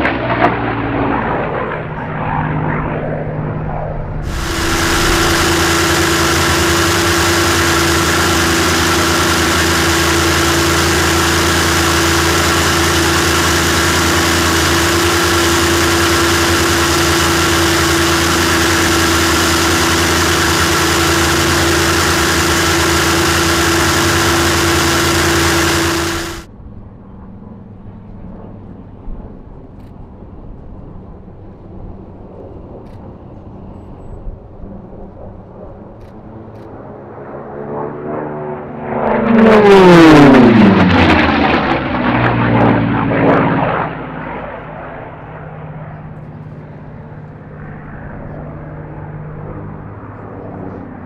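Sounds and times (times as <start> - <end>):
aircraft engine drone: 0.0 - 51.0
distant aircraft engine: 0.0 - 51.0.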